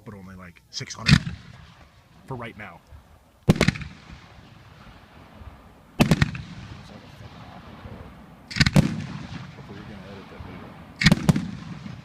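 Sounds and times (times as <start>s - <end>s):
fireworks bangs: 0.8s - 12.0s
rolling rumble: 1.0s - 12.0s.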